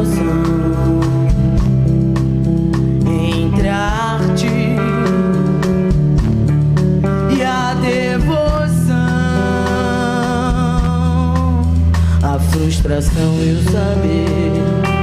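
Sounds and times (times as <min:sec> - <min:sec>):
bass guitar: 0:00.0 - 0:15.0
drum kit beat: 0:00.0 - 0:15.0
electric guitars: 0:00.0 - 0:15.0.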